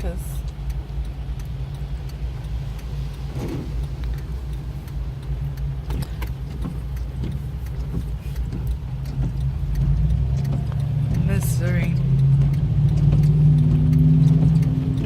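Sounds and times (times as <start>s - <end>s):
car driving rumble: 0.0s - 15.0s
rain tapping on car: 0.0s - 15.0s.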